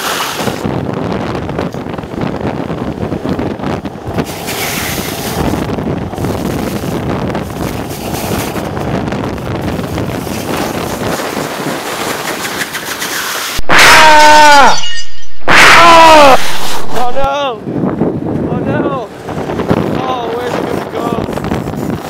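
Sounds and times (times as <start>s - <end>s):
wheels rolling on asphalt: 0.0s - 13.6s, 17.7s - 22.0s
wind rushing over microphone: 0.0s - 22.0s.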